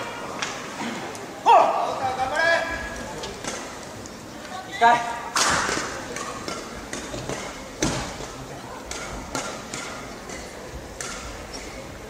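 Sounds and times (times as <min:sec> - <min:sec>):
faint background murmur: 0:00.0 - 0:12.0.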